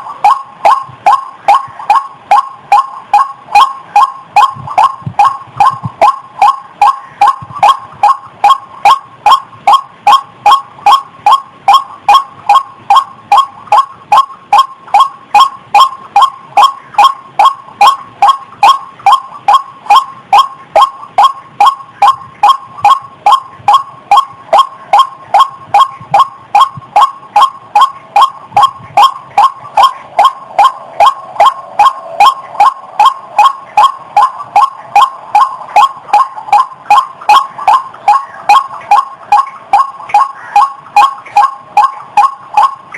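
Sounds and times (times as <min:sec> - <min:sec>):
rail bird calling short sharp notes: 0:00.0 - 0:42.9.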